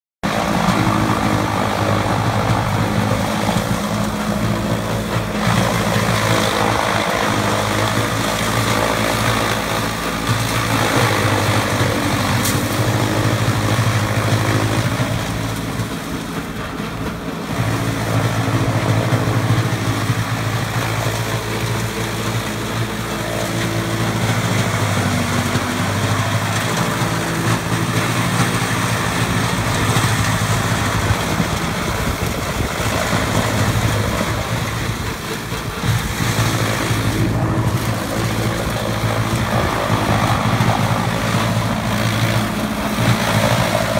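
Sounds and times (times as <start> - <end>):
machine drone: 0.2 - 43.9.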